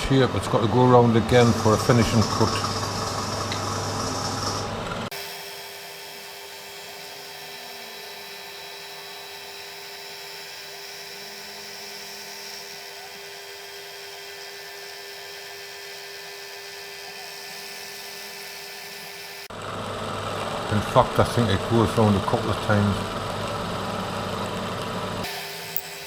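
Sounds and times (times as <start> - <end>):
loud low machine sound: 0.0 - 26.0
milling machine spindle whine: 0.0 - 26.0.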